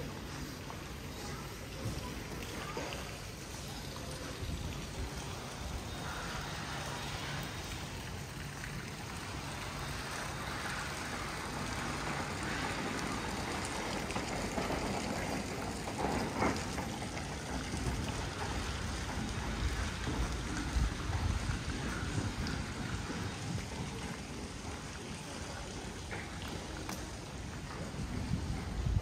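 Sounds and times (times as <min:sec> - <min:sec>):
street ambience rushing noise: 0:00.0 - 0:29.0.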